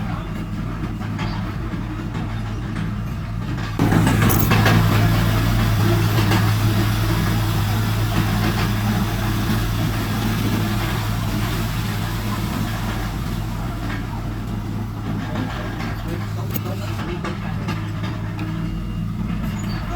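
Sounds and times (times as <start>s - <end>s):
engine knocks: 0.0s - 19.9s
heavy diesel engine running: 0.0s - 19.9s.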